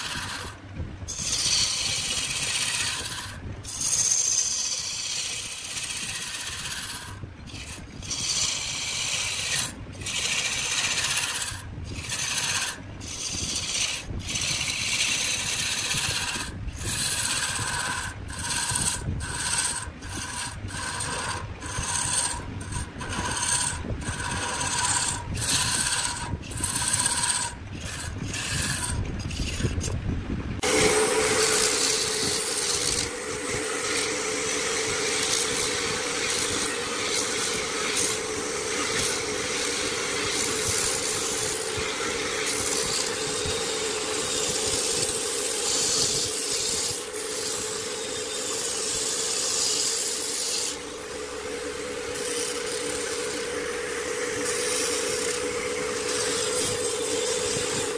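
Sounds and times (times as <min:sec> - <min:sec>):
lathe humming: 0:00.0 - 0:30.0, 0:30.6 - 0:57.9
tool scraping spinning wood: 0:00.0 - 0:57.9.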